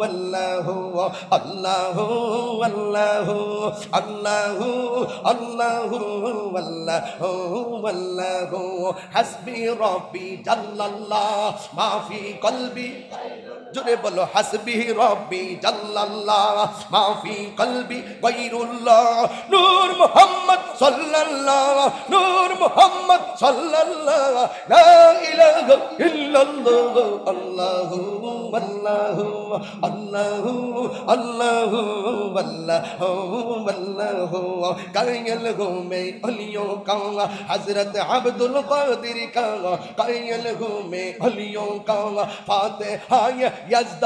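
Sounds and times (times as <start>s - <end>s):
man chanting melodically: 0.0s - 44.0s.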